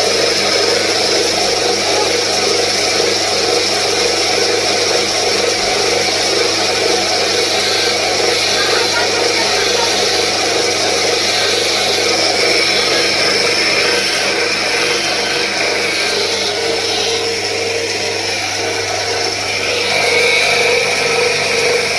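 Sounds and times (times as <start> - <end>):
electric power tool running: 0.0 - 21.9.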